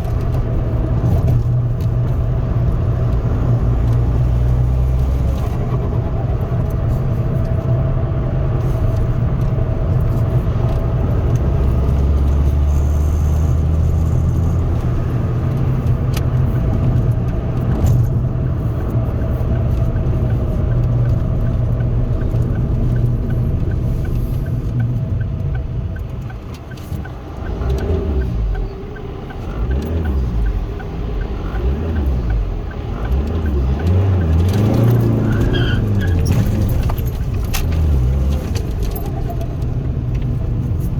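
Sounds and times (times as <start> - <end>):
car engine and road drone: 0.0 - 40.9.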